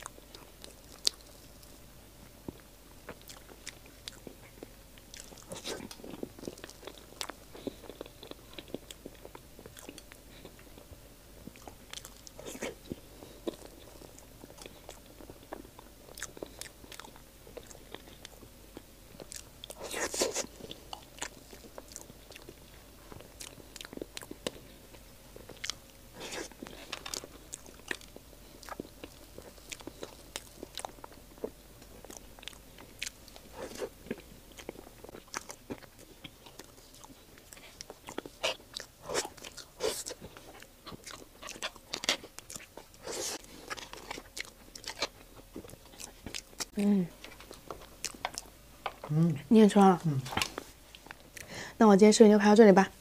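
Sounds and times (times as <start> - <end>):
person chewing soft cake: 0.0 - 51.6.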